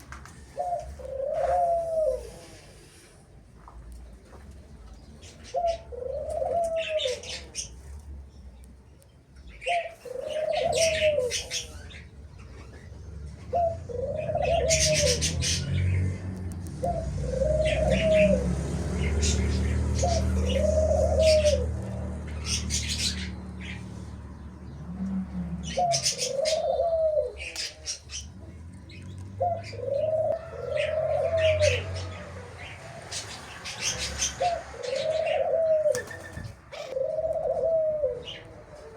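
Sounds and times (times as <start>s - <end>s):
dove cooing: 0.0s - 3.0s, 5.4s - 8.0s, 9.6s - 38.9s
cage birds chirping: 0.0s - 38.9s.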